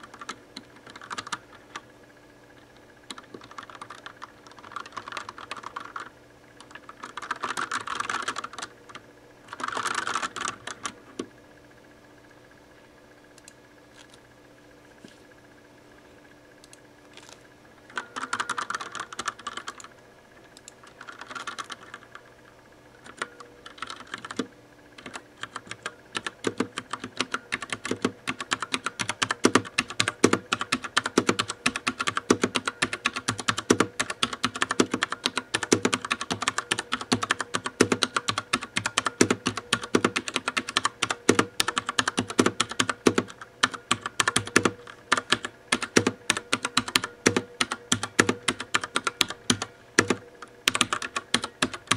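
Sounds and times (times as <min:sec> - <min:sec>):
mechanical keyboard typing: 0:00.0 - 0:01.8, 0:03.1 - 0:11.0, 0:17.9 - 0:19.9, 0:20.8 - 0:22.2, 0:23.0 - 0:51.9.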